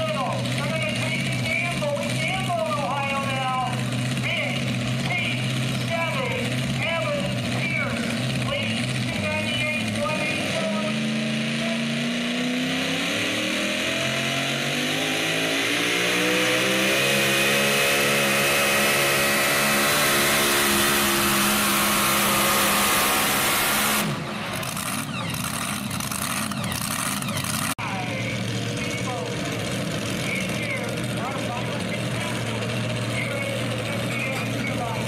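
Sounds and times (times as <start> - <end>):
truck engine at full throttle: 0.0 - 35.0.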